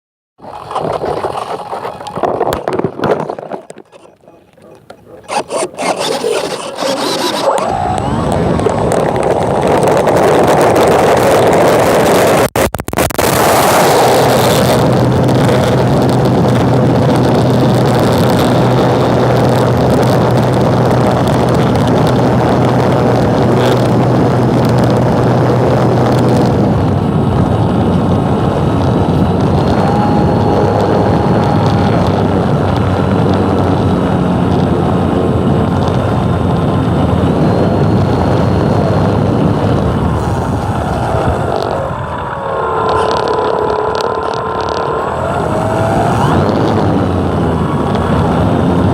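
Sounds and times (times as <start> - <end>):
small aircraft engine running: 0.4 - 48.9.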